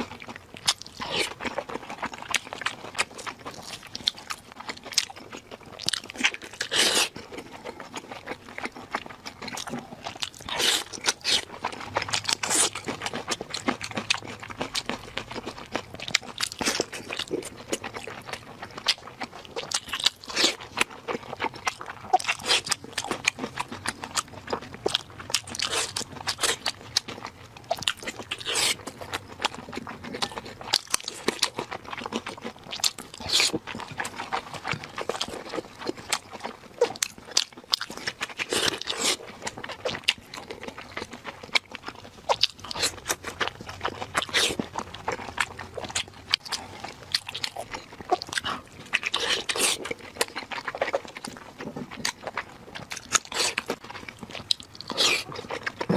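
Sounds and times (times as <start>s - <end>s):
crunching and chewing: 0.0s - 55.9s.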